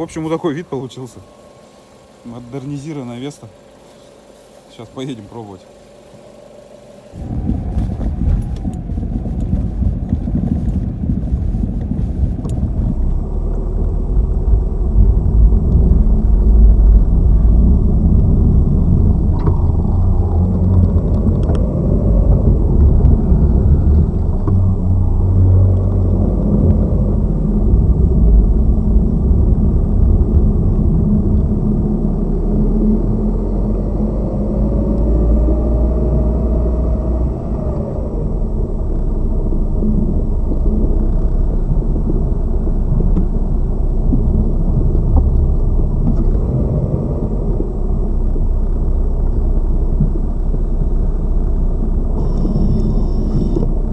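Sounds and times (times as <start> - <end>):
road and suspension rumble: 0.0 - 53.9.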